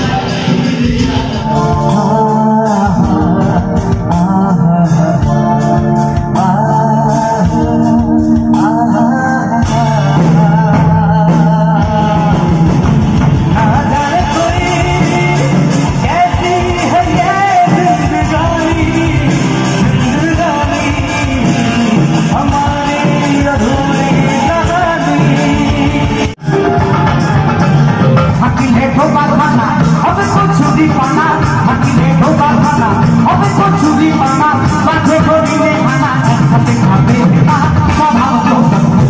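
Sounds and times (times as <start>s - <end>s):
man singing into a microphone: 0.0s - 26.7s, 28.1s - 39.0s
electric guitar: 0.0s - 39.0s
live band music: 0.0s - 39.0s.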